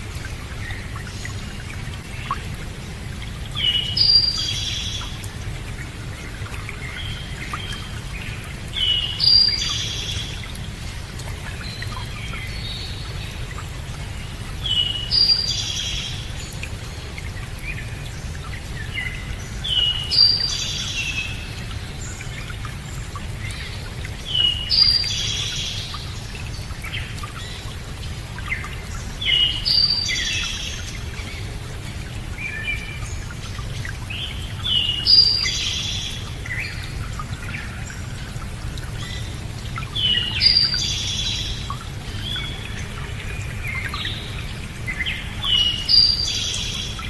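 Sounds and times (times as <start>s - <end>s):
songbird singing: 3.4s - 47.0s.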